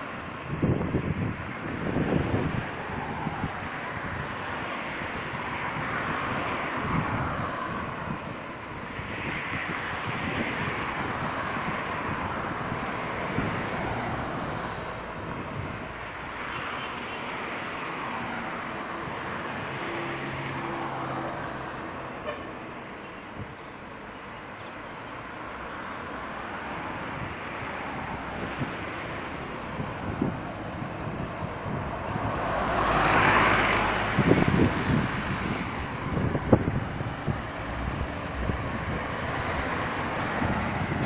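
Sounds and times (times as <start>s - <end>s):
cars driving past: 0.0s - 41.0s.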